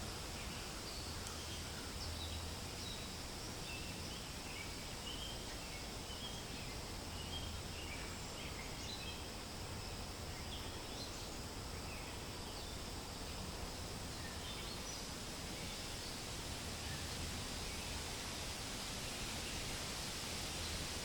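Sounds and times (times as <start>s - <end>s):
wind rustling tree leaves: 0.0s - 21.0s.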